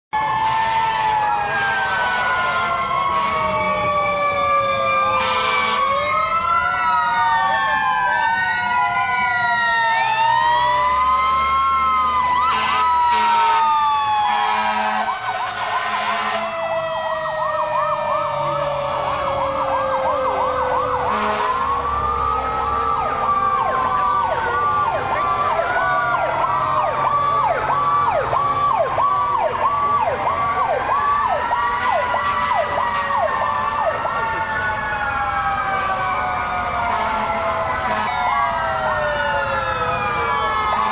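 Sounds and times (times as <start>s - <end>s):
sirens wailing: 0.1s - 40.9s
siren yelp: 0.2s - 40.9s.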